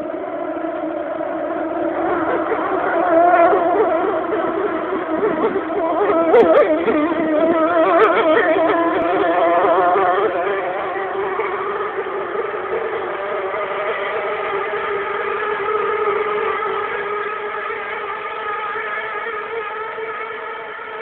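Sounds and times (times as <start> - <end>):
speedboat engine droning: 0.0 - 21.0.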